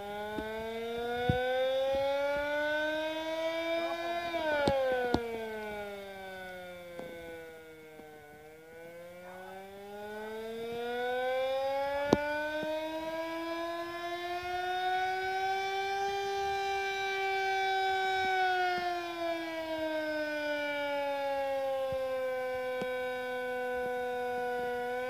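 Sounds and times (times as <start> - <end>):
warning siren rising and falling: 0.0 - 25.0.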